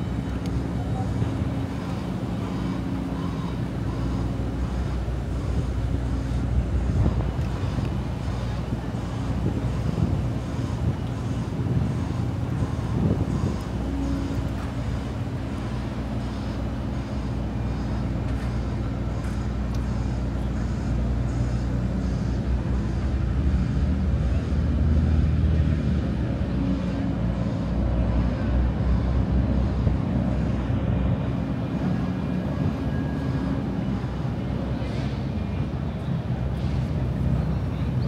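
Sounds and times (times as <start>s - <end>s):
vehicle engines rumbling: 0.0s - 38.0s.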